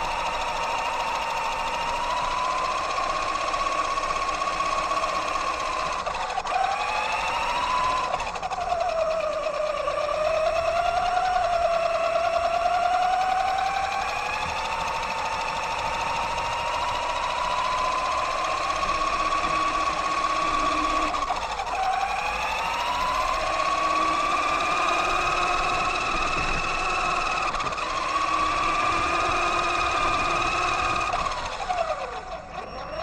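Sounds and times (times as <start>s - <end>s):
rc truck motor whining: 0.0s - 33.0s.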